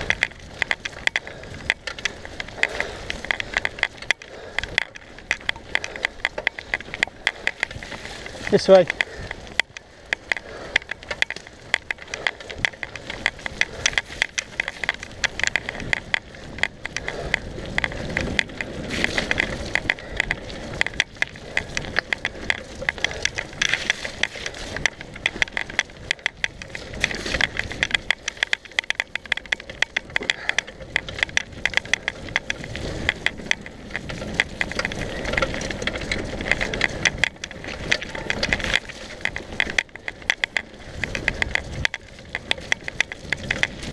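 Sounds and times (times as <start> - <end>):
bike rattling over bumps: 0.0 - 43.9
tyres rumbling on dirt: 0.0 - 43.9.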